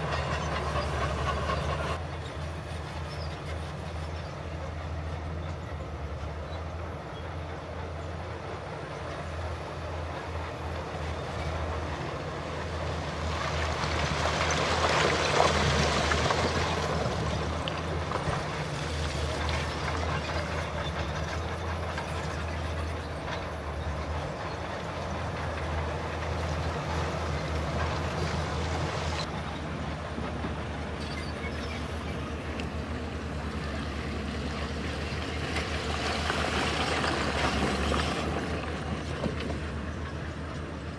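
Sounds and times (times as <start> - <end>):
earthmoving machinery engine hum: 0.0 - 40.9.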